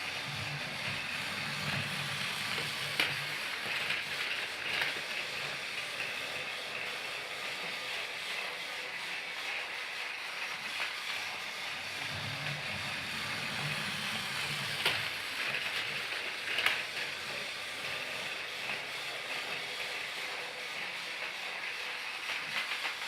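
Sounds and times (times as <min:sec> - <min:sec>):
toy train hiss: 0:00.0 - 0:23.0.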